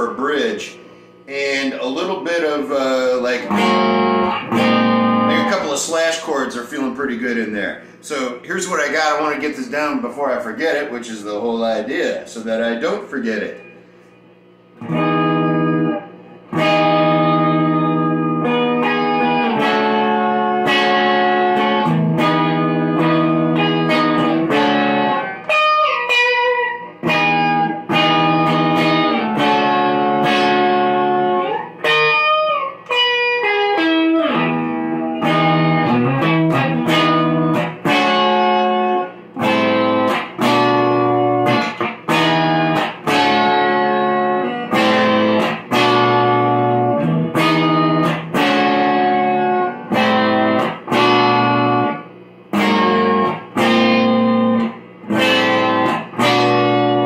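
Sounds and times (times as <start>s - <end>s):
electric guitar playing chords: 0.0s - 57.0s.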